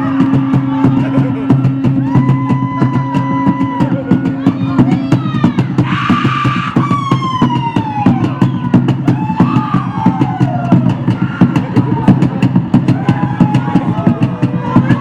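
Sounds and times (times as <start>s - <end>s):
fast percussion strikes: 0.0s - 15.0s
low bass line: 0.0s - 15.0s.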